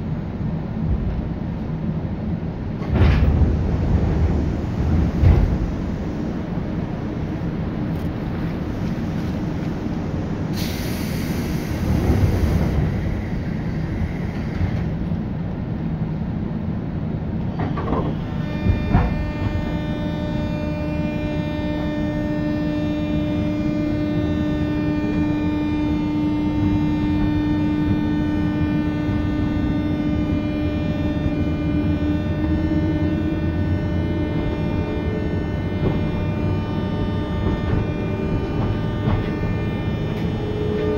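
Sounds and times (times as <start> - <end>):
electric train motor hum: 0.0 - 40.9
train wheel and track rumble: 0.0 - 40.9.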